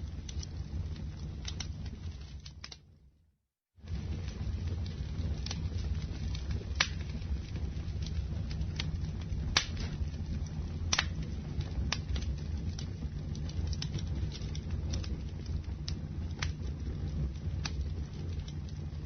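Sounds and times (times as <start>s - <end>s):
campfire crackling and popping: 0.0s - 3.0s, 3.8s - 19.0s.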